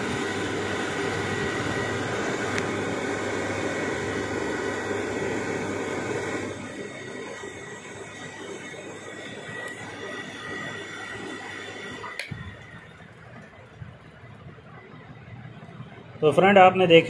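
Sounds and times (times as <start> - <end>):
high motor whine: 0.0 - 17.0
water pump motor hum: 0.0 - 17.0.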